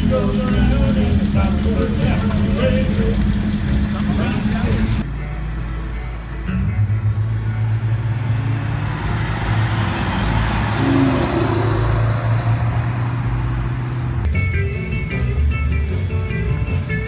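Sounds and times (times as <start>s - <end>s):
car engine and exhaust passing: 0.0s - 17.0s
road noise: 0.0s - 17.0s.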